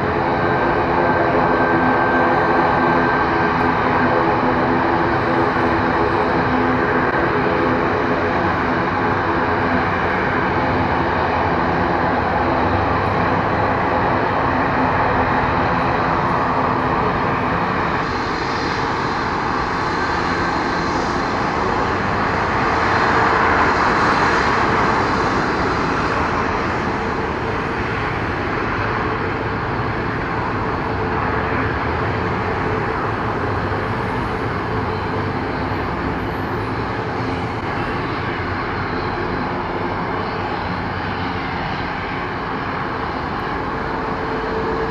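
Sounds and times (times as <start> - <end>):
jet engine whine: 0.0 - 44.9.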